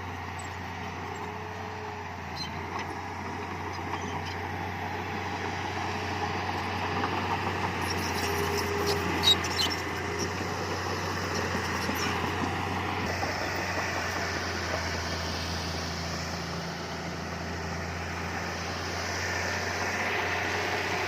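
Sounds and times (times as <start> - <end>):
heavy machine diesel engine running: 0.0 - 21.0.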